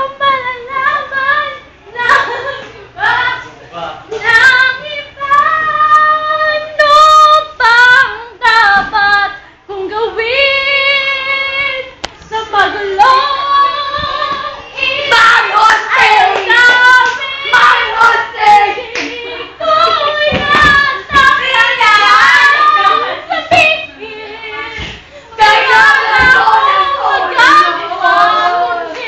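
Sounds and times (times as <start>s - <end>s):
girl singing unaccompanied: 0.0s - 29.0s.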